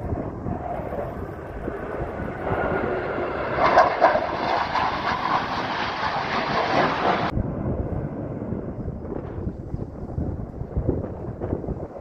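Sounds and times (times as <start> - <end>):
jet roar: 0.0 - 12.0.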